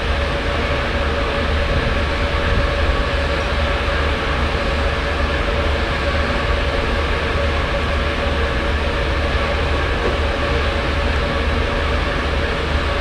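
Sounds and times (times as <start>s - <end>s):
ship machinery rumble: 0.0s - 13.0s
steady hum: 0.0s - 13.0s.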